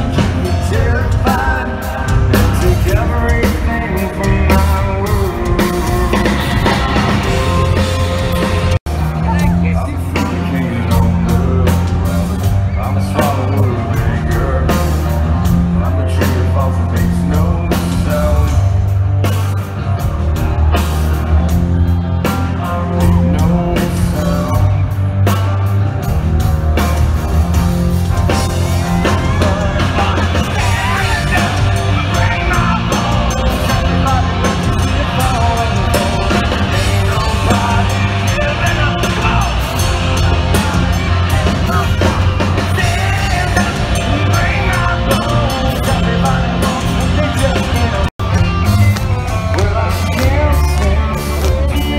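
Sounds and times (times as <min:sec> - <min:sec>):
person singing: 0:00.0 - 0:19.0, 0:19.8 - 0:26.2, 0:28.3 - 0:51.9
drums: 0:00.0 - 0:51.9
heavy bass line: 0:00.0 - 0:51.9
live rock band playing: 0:00.0 - 0:51.9.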